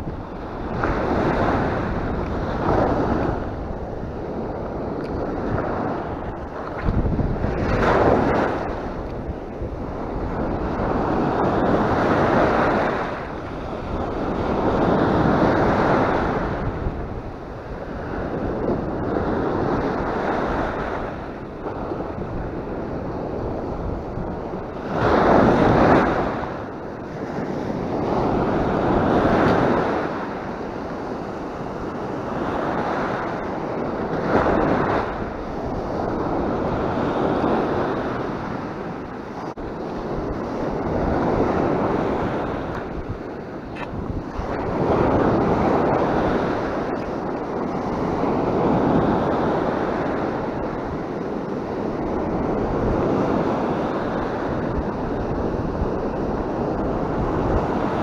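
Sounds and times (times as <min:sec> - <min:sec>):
sea surf breaking on shore: 0:00.0 - 0:58.0.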